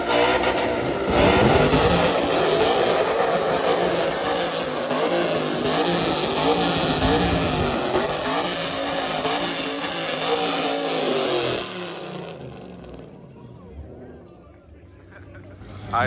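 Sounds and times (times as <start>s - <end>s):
car engine revving: 0.0s - 14.2s, 15.3s - 16.0s.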